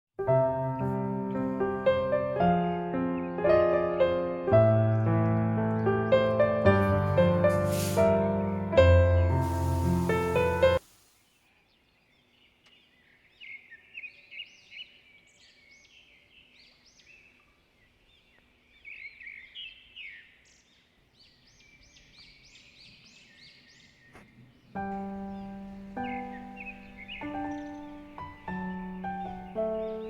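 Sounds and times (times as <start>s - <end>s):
small birds chirping: 4.6s - 8.3s, 9.5s - 30.0s.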